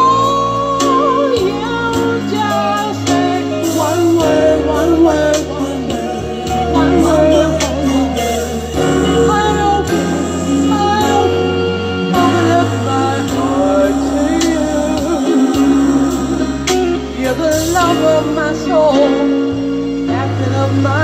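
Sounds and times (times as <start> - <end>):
woman singing into microphone: 0.0 - 19.3
instrumental backing track: 0.0 - 21.0.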